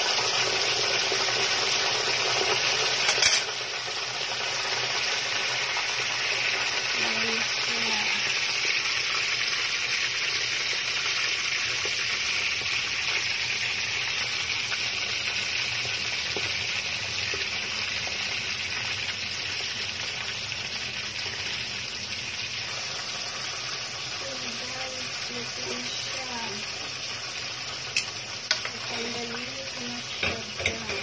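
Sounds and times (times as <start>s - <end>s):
hot oil sizzling around chicken: 0.0s - 31.0s.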